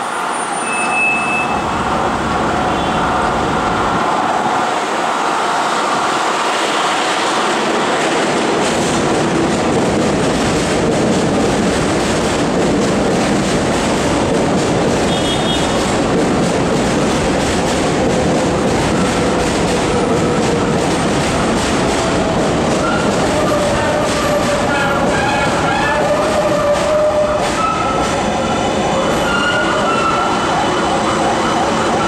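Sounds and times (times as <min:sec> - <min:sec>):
train wheels and motors on track: 0:00.0 - 0:32.0.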